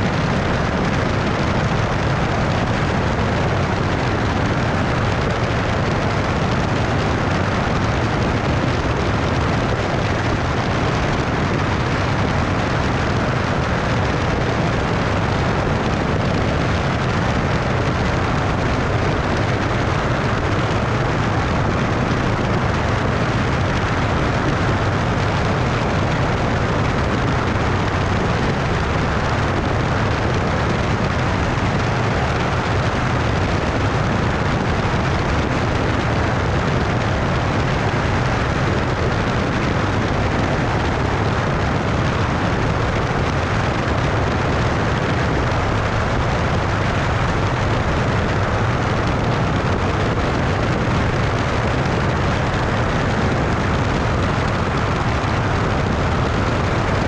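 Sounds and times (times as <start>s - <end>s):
aircraft engine and propeller drone: 0.0s - 57.0s
wind rushing over microphone: 0.0s - 57.0s.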